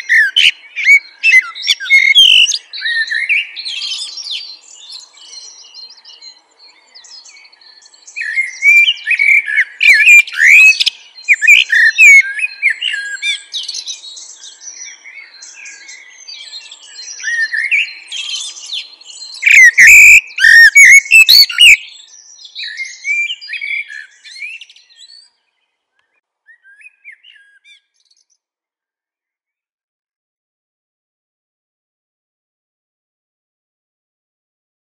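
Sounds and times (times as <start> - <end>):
birds chirping and singing: 0.0 - 28.4.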